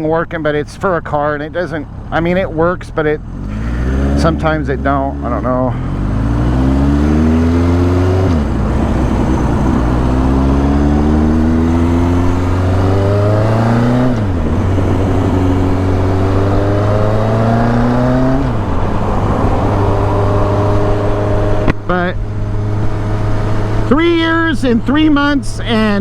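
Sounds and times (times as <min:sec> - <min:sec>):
motorcycle engine accelerating: 0:03.0 - 0:26.0.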